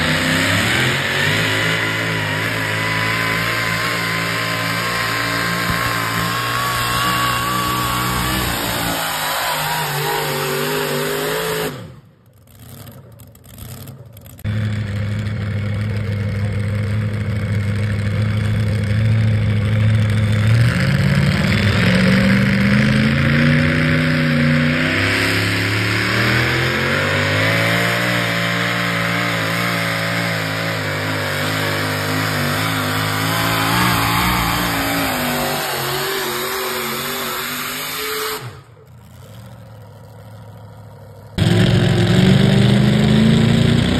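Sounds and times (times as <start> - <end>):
truck engines revving hard: 0.0 - 43.9.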